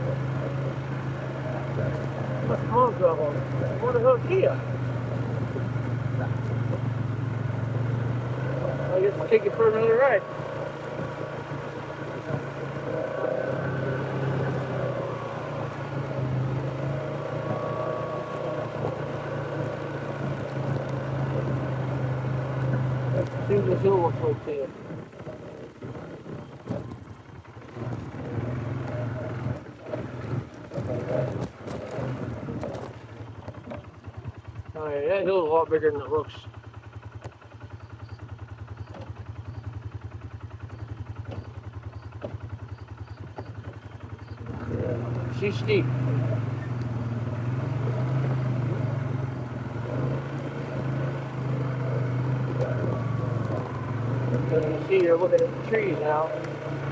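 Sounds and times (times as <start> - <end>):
atv engine running steadily: 0.0 - 56.9.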